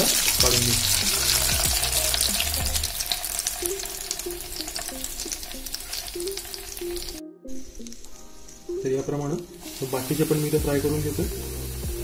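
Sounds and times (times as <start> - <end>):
rolls sizzling in hot oil: 0.0 - 7.2, 7.8 - 12.0.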